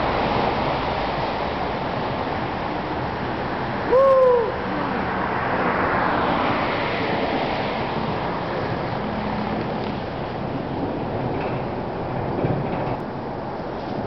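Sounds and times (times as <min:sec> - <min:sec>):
road traffic hiss: 0:00.0 - 0:14.0.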